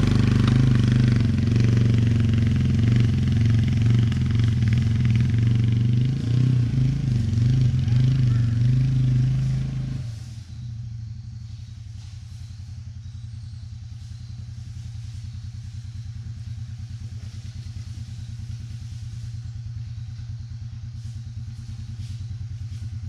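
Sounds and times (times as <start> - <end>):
motorcycle engine pulling uphill: 0.0 - 23.0.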